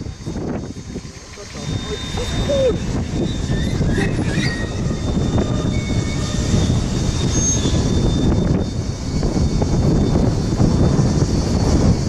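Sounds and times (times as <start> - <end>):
high wheel squeals: 0.0 - 12.0
steel wheels rumbling on rail: 0.0 - 12.0.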